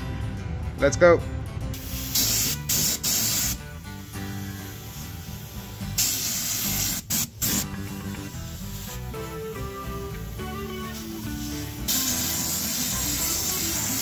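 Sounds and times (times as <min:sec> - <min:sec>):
background music: 0:00.0 - 0:14.0
spray gun hissing bursts: 0:01.8 - 0:07.7, 0:08.3 - 0:14.0.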